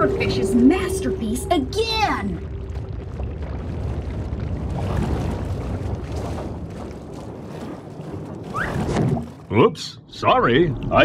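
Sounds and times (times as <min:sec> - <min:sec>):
low underwater rushing: 0:00.0 - 0:11.0.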